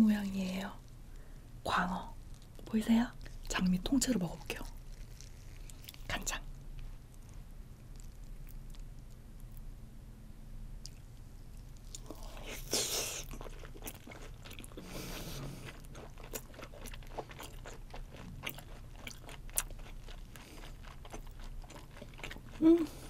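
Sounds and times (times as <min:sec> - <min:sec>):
close chewing: 0:02.3 - 0:06.2, 0:07.0 - 0:09.6, 0:10.8 - 0:23.0.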